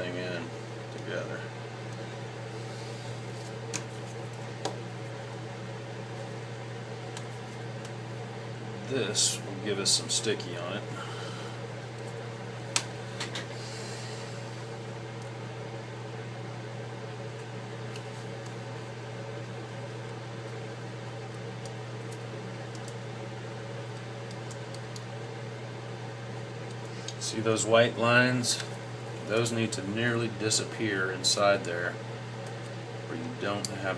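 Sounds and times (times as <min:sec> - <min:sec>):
machine humming: 0:00.0 - 0:33.9.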